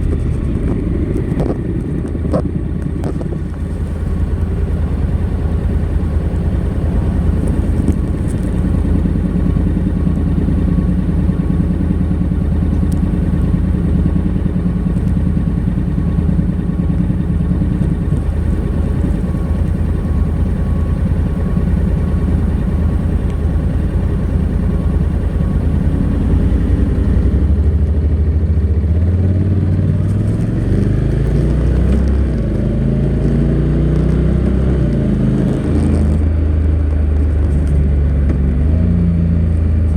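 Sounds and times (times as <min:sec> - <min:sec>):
motorcycle engine revving with gear changes: 0:00.0 - 0:39.9.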